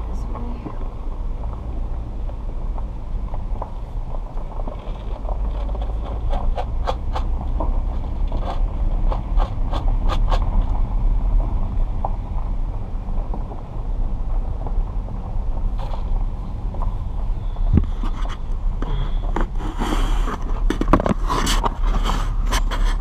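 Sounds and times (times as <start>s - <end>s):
car interior rumble: 0.0s - 23.0s.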